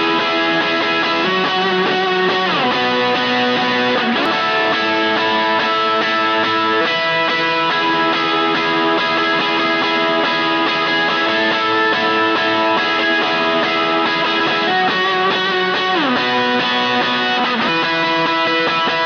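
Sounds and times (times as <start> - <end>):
electric guitar notes and chords: 0.0 - 19.0.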